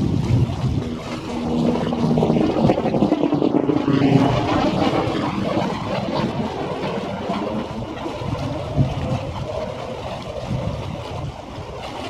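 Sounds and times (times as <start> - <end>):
low rumble: 0.0 - 12.0
rushing wind and water: 0.0 - 12.0.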